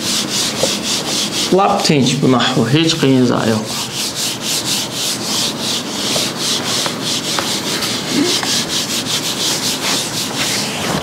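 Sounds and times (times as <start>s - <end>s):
eraser rubbing on whiteboard: 0.0s - 1.9s, 3.4s - 11.0s.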